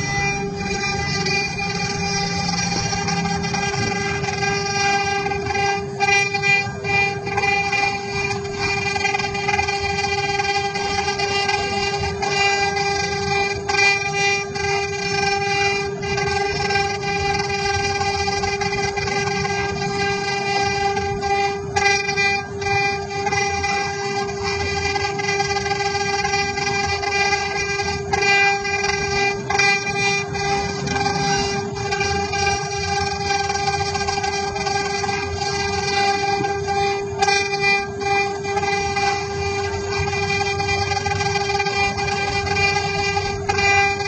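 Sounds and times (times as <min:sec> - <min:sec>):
cnc machine whine: 0:00.0 - 0:44.0.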